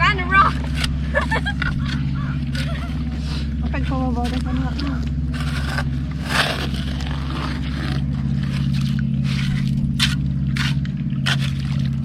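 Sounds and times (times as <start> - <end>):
steady low hum: 0.0 - 12.0
scraping through gravel and shells: 1.8 - 12.0.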